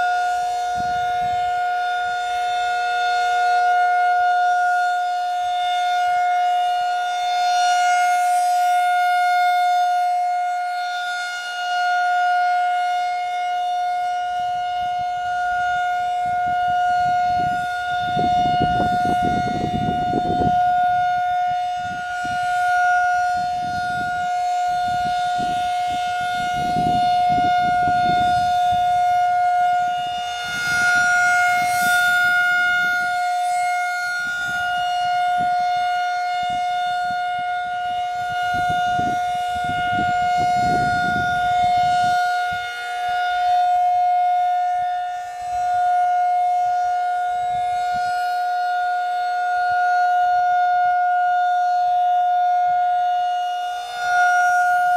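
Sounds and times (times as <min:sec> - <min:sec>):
warning siren steady tone: 0:00.0 - 0:54.9.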